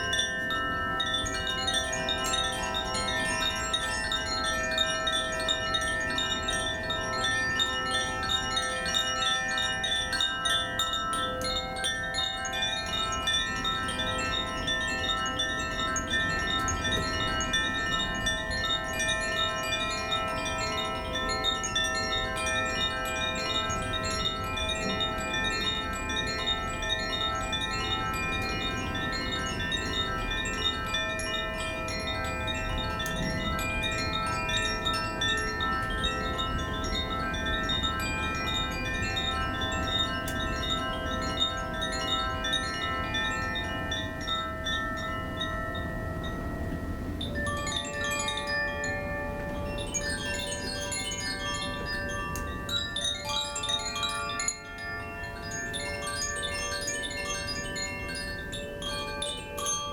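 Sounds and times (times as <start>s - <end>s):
chimes tinkling: 0.0s - 59.9s.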